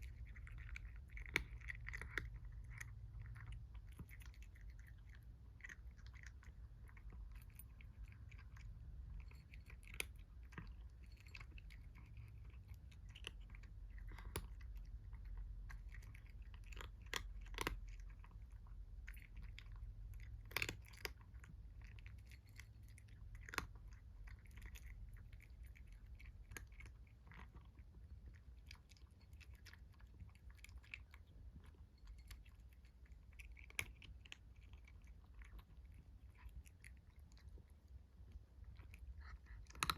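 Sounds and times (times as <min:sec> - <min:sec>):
faint low hum: 0:00.0 - 0:39.9
kitten chewing food: 0:00.0 - 0:39.9.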